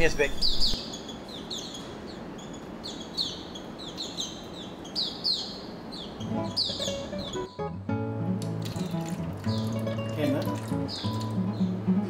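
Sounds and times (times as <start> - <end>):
faint background hiss: 0.0 - 12.0
songbirds chirping: 0.0 - 12.0.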